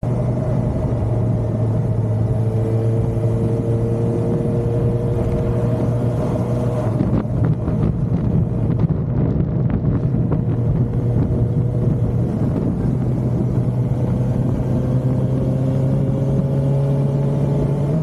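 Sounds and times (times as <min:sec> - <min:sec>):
motorcycle engine cruising: 0:00.0 - 0:18.0
wind buffeting microphone: 0:00.1 - 0:18.0.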